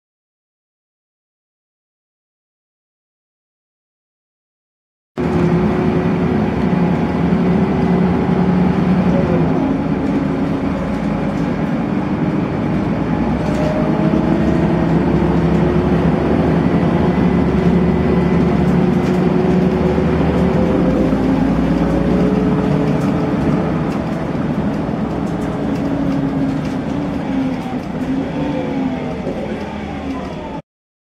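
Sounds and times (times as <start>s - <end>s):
bus engine running: 5.2s - 30.6s.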